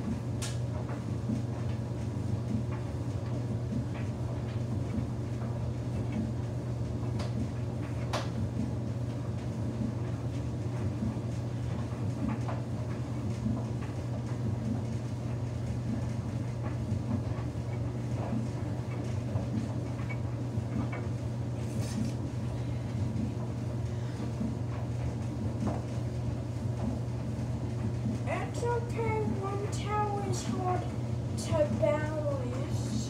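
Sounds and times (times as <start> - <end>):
washing machine motor hum: 0.0 - 33.0.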